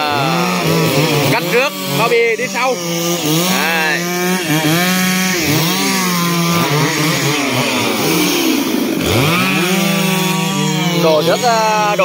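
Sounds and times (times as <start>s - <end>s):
chainsaws cutting wood: 0.0s - 12.0s.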